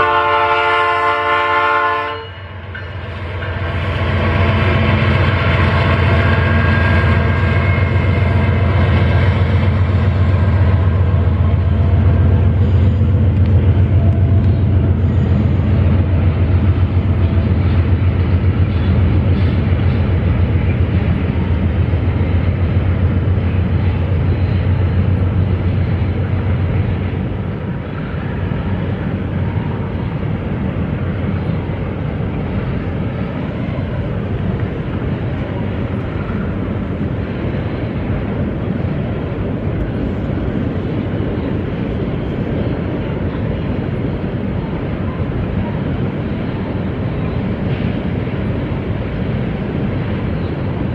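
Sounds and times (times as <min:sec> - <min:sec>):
train rolling rumble: 0:00.0 - 0:50.9.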